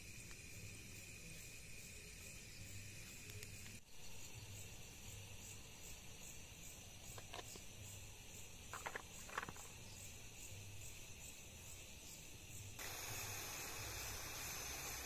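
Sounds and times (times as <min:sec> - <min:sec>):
crickets chirping: 0:00.0 - 0:15.0
gas stove hissing: 0:00.0 - 0:15.0.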